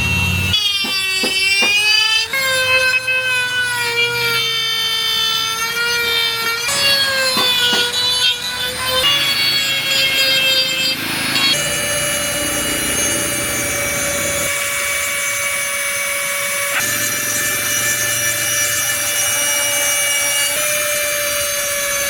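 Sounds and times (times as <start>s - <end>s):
power carving tool whining: 0.0s - 22.0s.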